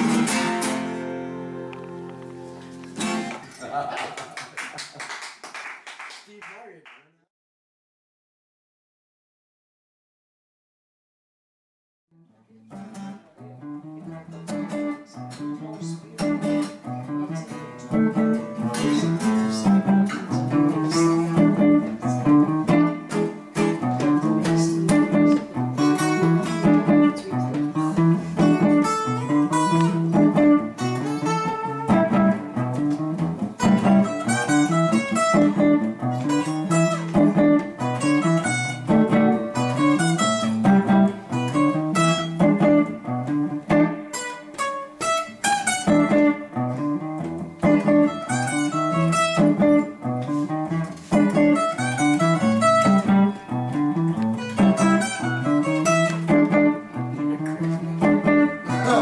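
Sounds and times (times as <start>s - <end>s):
acoustic guitar: 0.0s - 4.4s, 12.2s - 59.0s
electric guitar: 0.0s - 4.7s, 12.2s - 59.0s.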